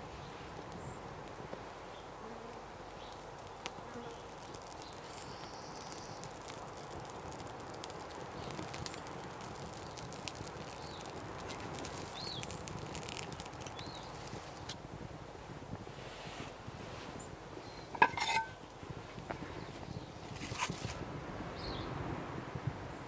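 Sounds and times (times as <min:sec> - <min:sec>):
fire hissing: 0:00.0 - 0:21.2
campfire crackling: 0:00.0 - 0:22.8.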